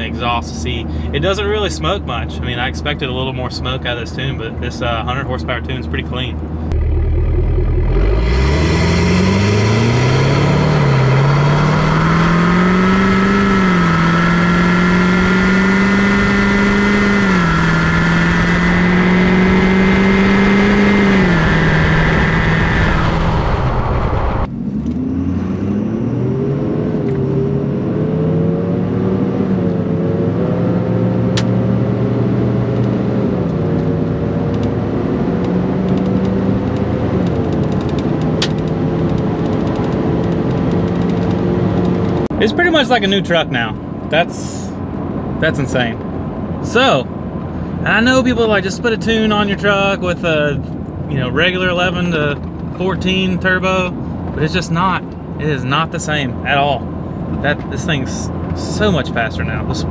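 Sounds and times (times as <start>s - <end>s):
diesel truck engine accelerating: 0.0s - 59.9s.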